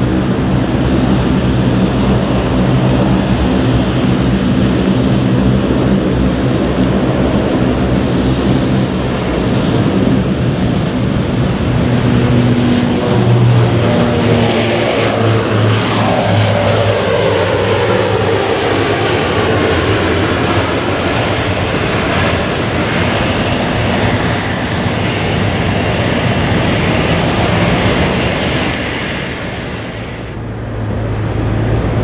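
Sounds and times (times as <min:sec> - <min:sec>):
airliner engines passing: 0:00.0 - 0:32.0.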